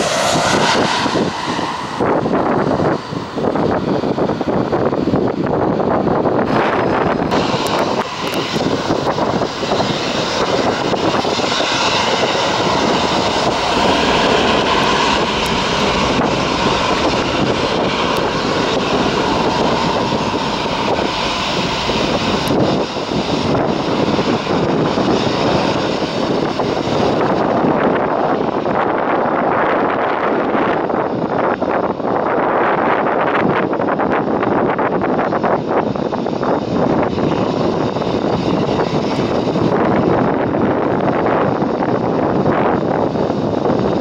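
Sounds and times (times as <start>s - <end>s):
jet engines at high power: 0.0s - 44.0s.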